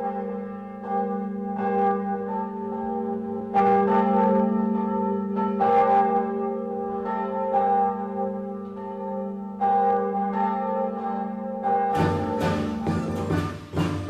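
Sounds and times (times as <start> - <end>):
bells ringing: 0.0 - 14.0.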